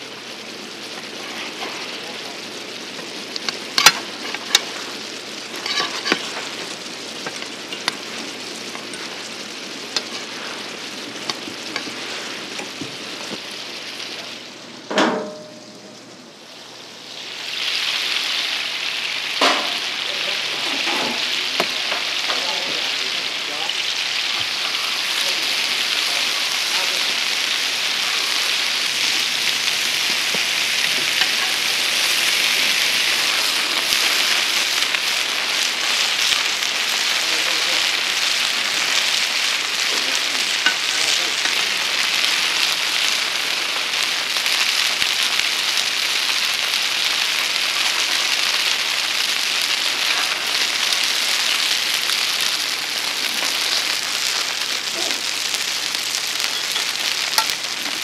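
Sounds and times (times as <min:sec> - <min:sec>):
buns sizzling in oil: 0:00.0 - 0:58.0.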